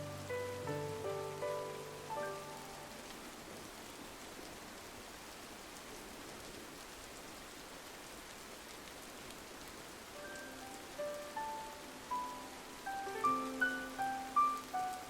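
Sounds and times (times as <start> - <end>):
rain on a window pane: 0.0 - 15.0.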